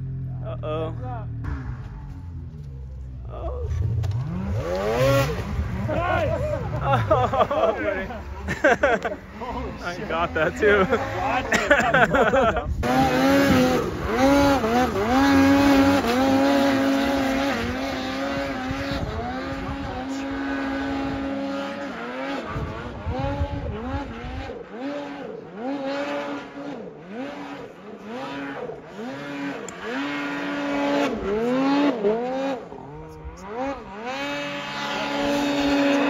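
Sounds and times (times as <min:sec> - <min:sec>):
snowmobile engine revving: 0:00.0 - 0:36.0.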